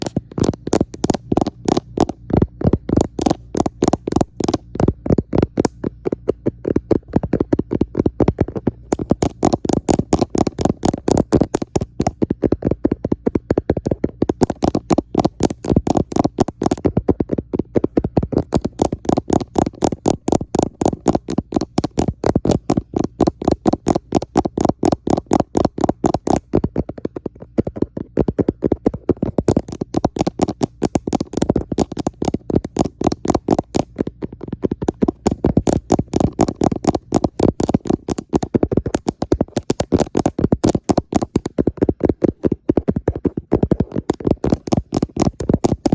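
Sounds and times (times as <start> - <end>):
fingertips tapping on camera: 0.0 - 45.9.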